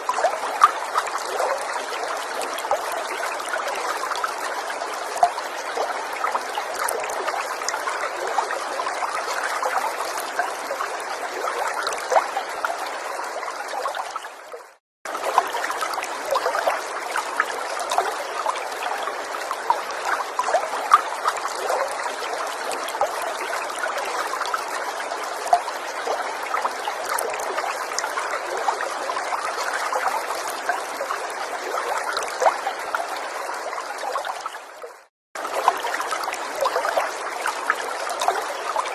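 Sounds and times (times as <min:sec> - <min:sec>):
stream trickling over stones: 0:00.0 - 0:38.9
water splashes and drips: 0:00.0 - 0:38.9.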